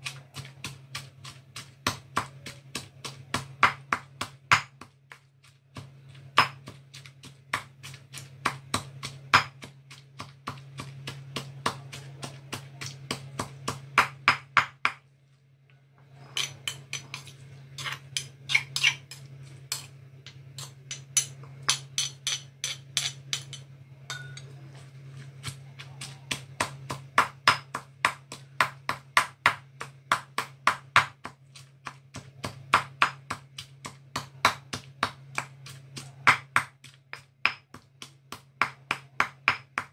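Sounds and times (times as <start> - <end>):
stone pestle pounding in mortar: 0.0 - 15.1, 16.4 - 24.5, 25.3 - 39.9.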